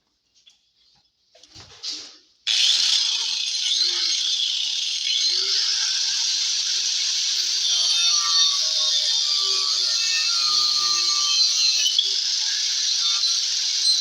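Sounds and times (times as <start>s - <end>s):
electric grinder cutting wood: 2.5s - 14.0s.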